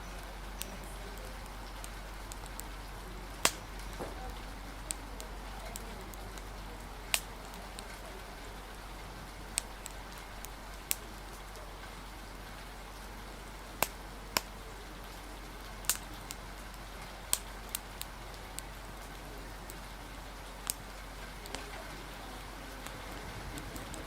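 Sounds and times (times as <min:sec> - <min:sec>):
rain hiss: 0:00.0 - 0:24.0
wood fire popping and crackling: 0:00.0 - 0:24.0.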